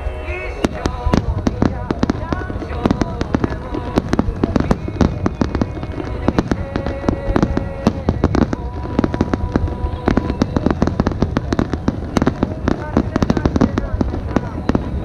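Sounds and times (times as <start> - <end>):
fireworks bangs and crackles: 0.5 - 15.0.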